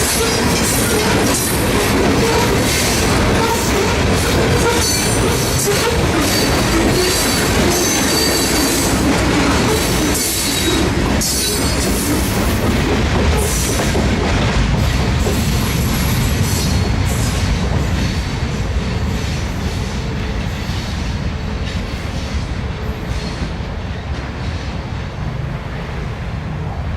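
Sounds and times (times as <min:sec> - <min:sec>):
rail clickety-clack: 0:00.0 - 0:26.9
train wheels rumbling: 0:00.0 - 0:26.9.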